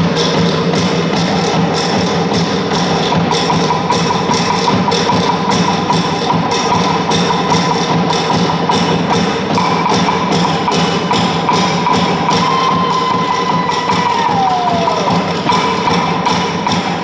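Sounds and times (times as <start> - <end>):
wooden slit drums beating rapidly: 0.0 - 17.0.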